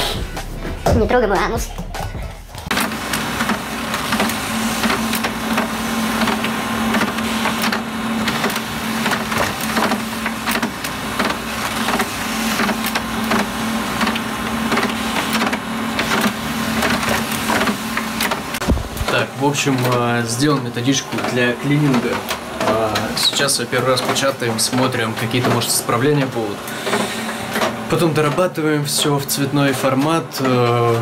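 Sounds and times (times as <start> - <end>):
printer humming: 2.5 - 31.0
paper feed clicks: 2.7 - 31.0.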